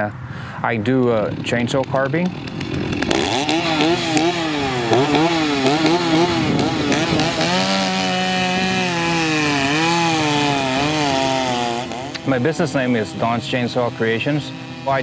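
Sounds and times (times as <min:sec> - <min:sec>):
chainsaw revving and cutting log: 0:00.9 - 0:15.0.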